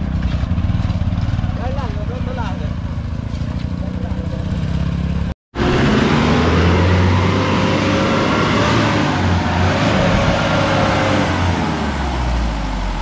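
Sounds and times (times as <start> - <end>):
car engine revving: 1.4 - 13.0.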